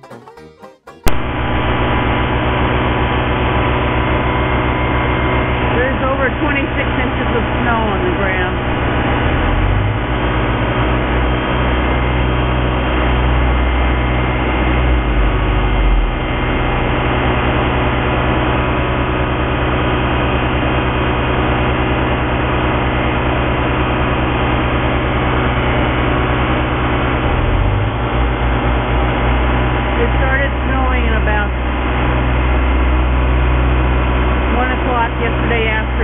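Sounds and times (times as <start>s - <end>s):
snow-clearing machine engine running: 1.0s - 36.0s.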